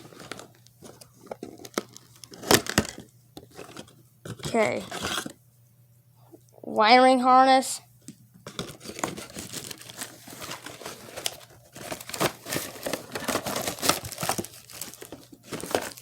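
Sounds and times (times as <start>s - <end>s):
packaging crinkling and rustling: 0.0s - 5.4s, 8.4s - 16.0s.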